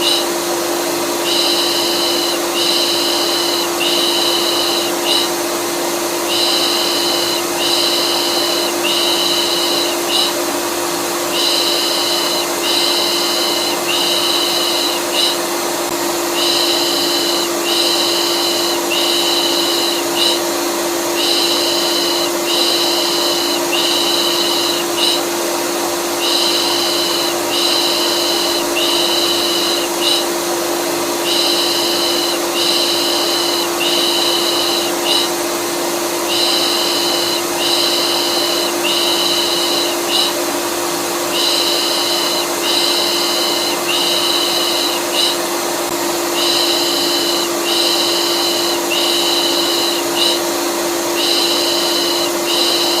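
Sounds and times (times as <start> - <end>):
vacuum cleaner humming: 0.0 - 53.0.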